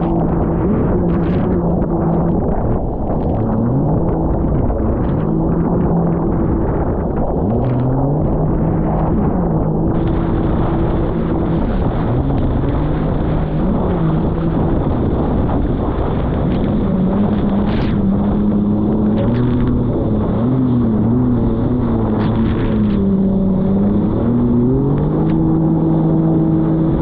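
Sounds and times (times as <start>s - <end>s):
jet ski engine: 0.0s - 27.0s
wind and water rushing: 0.0s - 27.0s.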